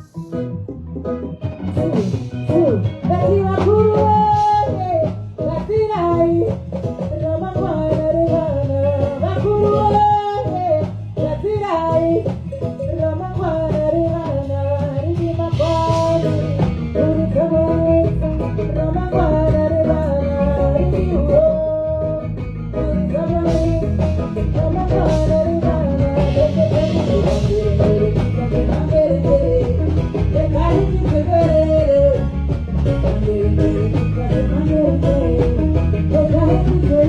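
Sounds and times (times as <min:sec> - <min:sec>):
guitar melody: 0:00.0 - 0:37.0
heavy bass line: 0:00.0 - 0:37.0
person singing: 0:01.6 - 0:37.0.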